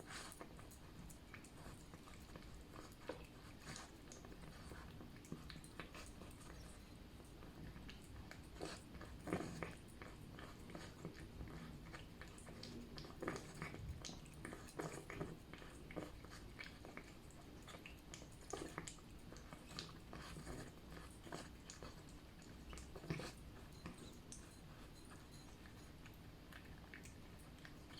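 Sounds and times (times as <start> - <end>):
cat chewing food: 0.0 - 27.9.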